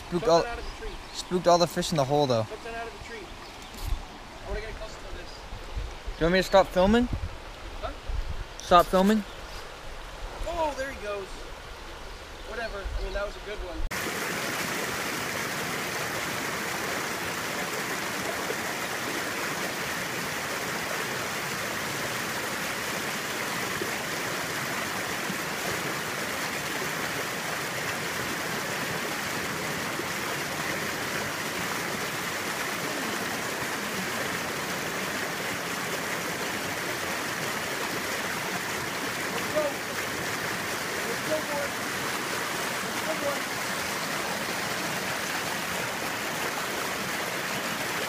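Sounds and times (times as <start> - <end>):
creek flowing over rocks: 0.0 - 48.0.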